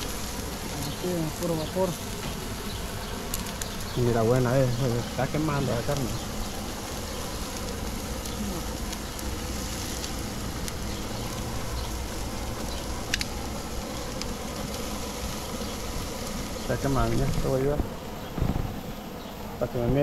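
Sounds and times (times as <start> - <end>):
meat sizzling on a grill: 0.0 - 20.0
sharp fat crackles: 0.0 - 20.0
steady low hum: 0.0 - 20.0.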